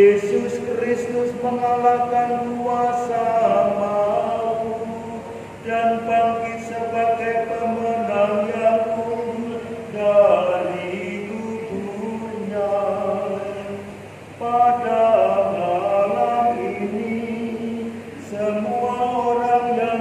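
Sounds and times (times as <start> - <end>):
liturgical chant singing: 0.0 - 20.0.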